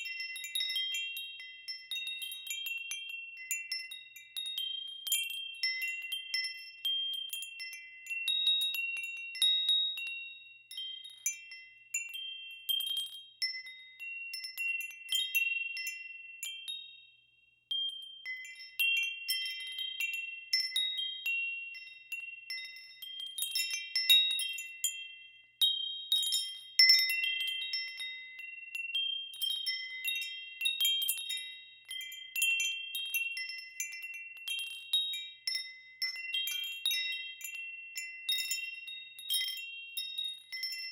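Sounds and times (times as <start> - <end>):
wind chimes ringing: 0.0 - 17.1, 17.7 - 40.9.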